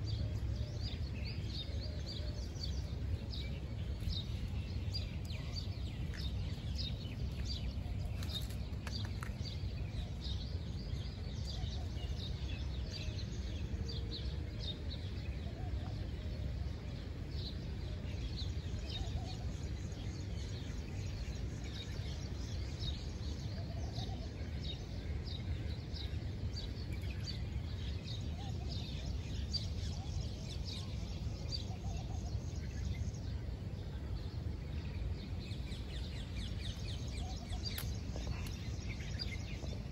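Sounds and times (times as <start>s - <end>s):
small birds chirping: 0.0s - 16.5s, 17.3s - 39.9s
low wind noise on microphone: 0.0s - 39.9s.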